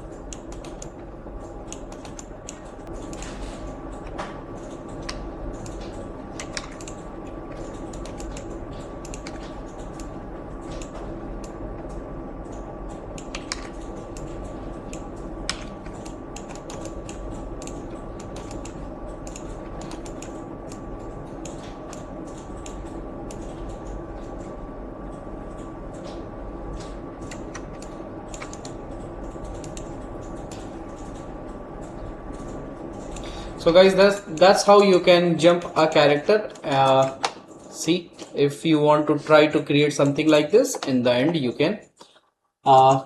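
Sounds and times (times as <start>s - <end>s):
keyboard keys clicking: 0.0s - 35.2s
steady background hum: 0.0s - 43.0s.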